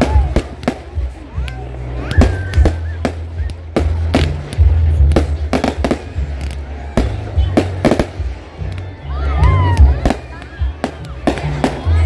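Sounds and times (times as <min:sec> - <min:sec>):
fireworks bangs: 0:00.0 - 0:12.0
music with deep bass: 0:00.0 - 0:12.0.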